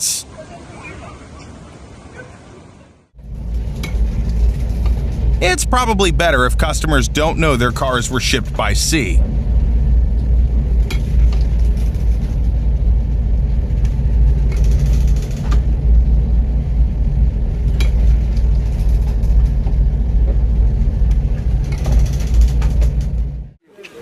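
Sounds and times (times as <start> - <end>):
deep rumble: 3.2 - 23.6.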